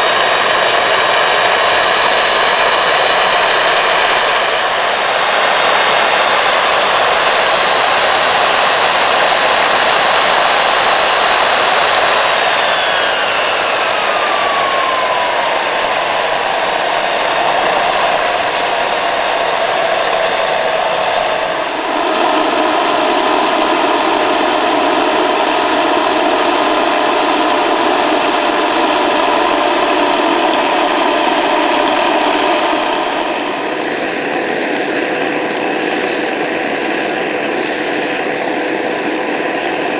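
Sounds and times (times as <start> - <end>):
turbine engine whining: 0.0 - 39.9.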